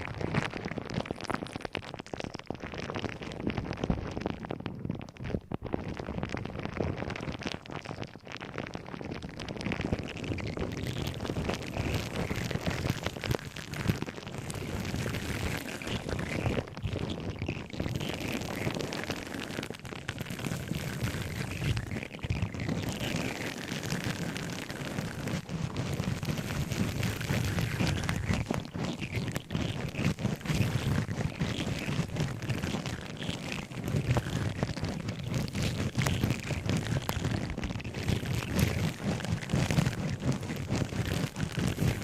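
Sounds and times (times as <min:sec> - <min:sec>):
objects crackling and rustling: 0:00.0 - 0:42.0.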